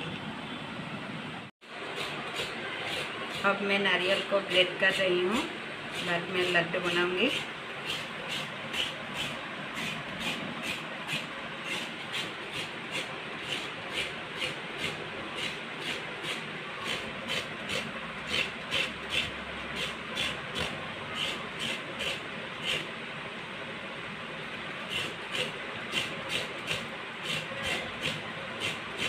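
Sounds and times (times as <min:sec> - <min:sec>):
coconut grating rasping strokes: 0:01.9 - 0:22.9, 0:24.9 - 0:29.0.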